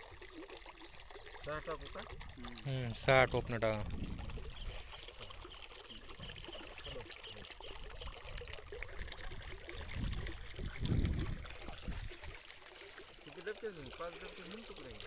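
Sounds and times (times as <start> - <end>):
liquid sloshing in plastic bucket: 0.0 - 15.0.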